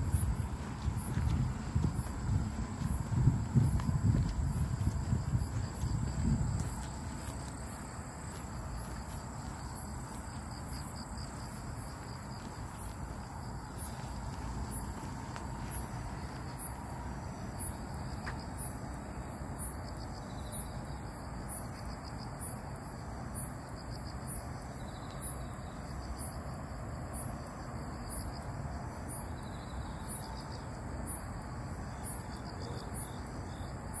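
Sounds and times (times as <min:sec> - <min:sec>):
insect high-pitched chirps: 0:00.0 - 0:18.8, 0:19.6 - 0:26.5, 0:28.0 - 0:34.0
low background noise: 0:00.0 - 0:34.0.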